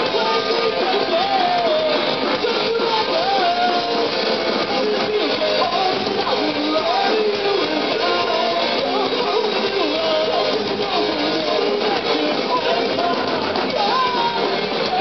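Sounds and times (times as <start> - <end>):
electric guitars: 0.0 - 15.0
punk band playing live: 0.0 - 15.0.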